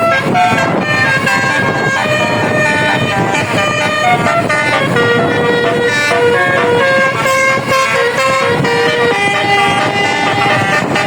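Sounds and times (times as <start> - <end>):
bus horn playing a melody: 0.0 - 11.0.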